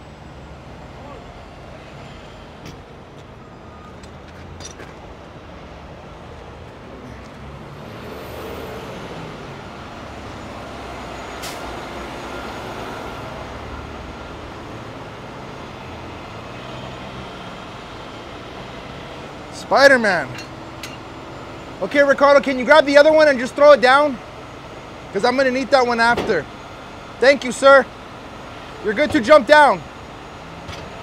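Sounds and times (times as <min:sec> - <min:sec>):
diesel trucks idling hum: 0:00.0 - 0:31.0
freeway traffic passing: 0:00.0 - 0:31.0.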